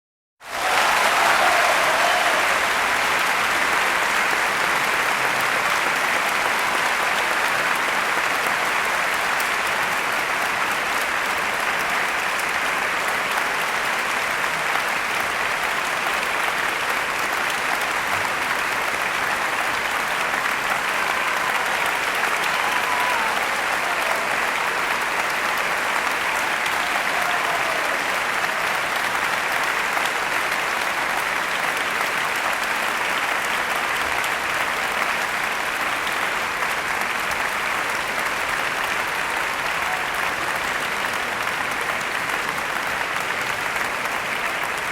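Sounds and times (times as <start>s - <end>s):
crowd applauding: 0.4s - 44.9s.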